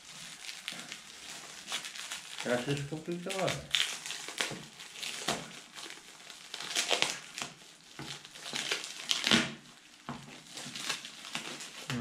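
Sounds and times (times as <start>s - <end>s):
plastic wrapping crinkling and tearing: 0.0s - 12.0s.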